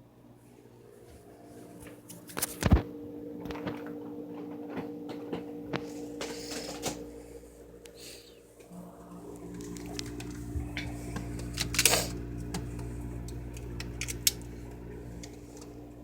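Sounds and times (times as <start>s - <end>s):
refrigerator hum: 0.0s - 16.0s.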